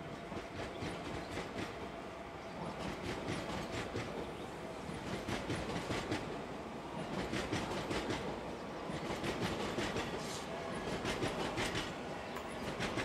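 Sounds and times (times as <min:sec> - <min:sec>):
electric train rumbling past: 0:00.0 - 0:13.0
train wheels clicking over rails: 0:00.1 - 0:13.0.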